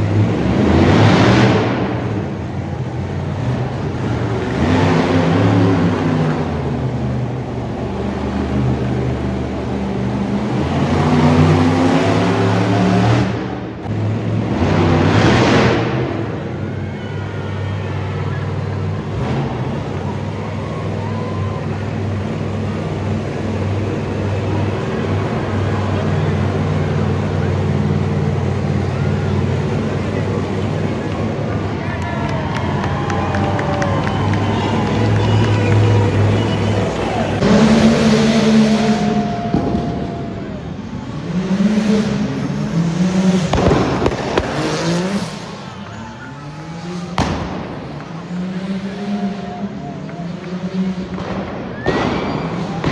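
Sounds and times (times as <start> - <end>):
monster truck engine revving: 0.0 - 52.9.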